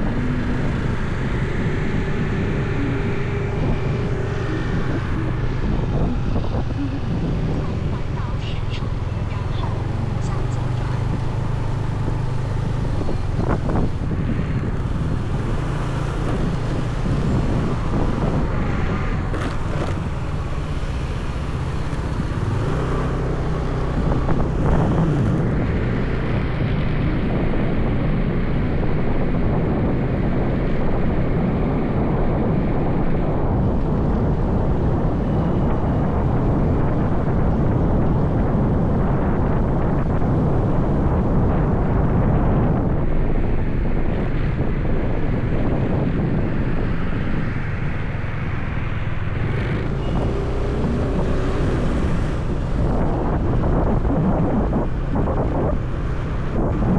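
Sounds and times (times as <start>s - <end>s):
motorbike engine running: 0.0s - 29.6s, 33.2s - 56.9s
wind rushing over microphone: 0.0s - 56.9s.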